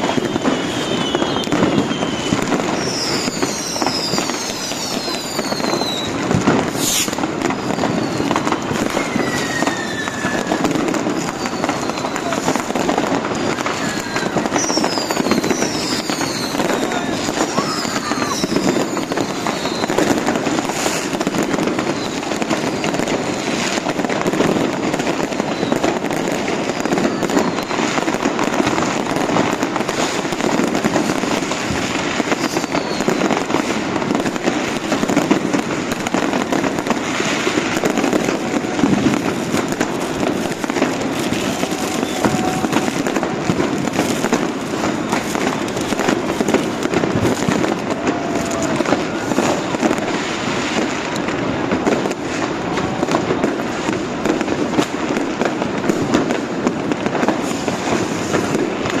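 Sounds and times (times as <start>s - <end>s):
firework whistles: 0.0s - 59.0s
fireworks crackling and banging: 0.0s - 59.0s.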